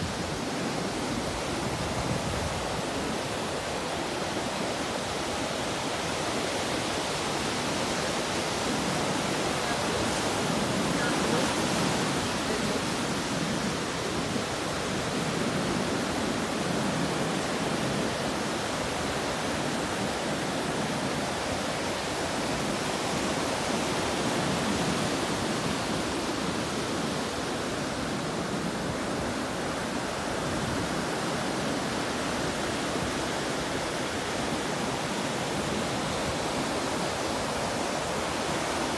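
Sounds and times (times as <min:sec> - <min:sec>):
ocean surf breaking on sand: 0:00.0 - 0:38.9.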